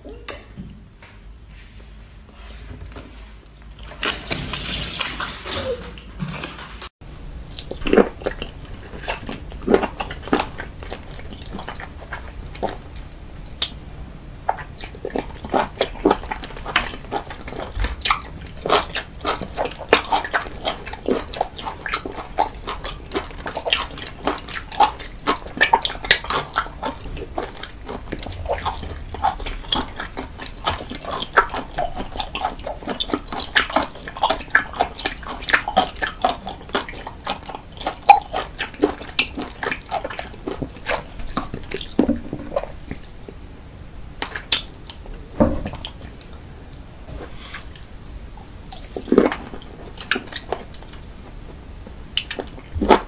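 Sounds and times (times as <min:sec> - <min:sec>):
sticky chewing squelches: 0:07.4 - 0:43.4, 0:44.1 - 0:53.0.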